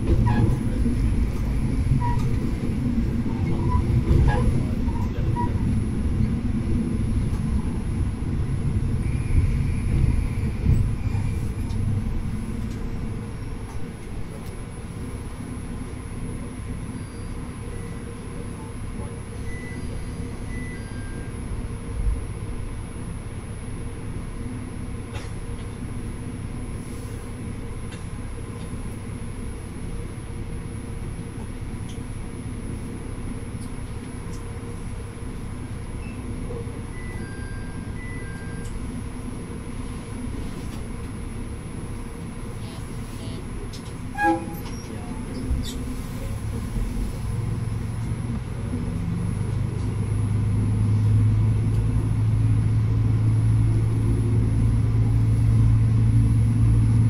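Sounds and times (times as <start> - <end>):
diesel railcar rumbling: 0.0 - 57.0.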